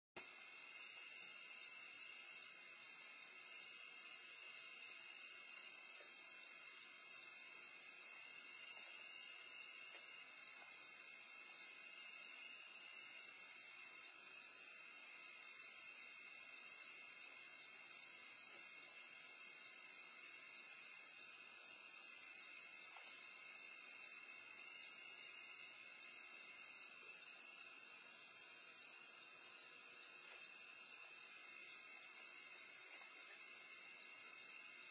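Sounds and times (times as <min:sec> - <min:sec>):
lower-pitched insect drone: 0:00.2 - 0:34.9.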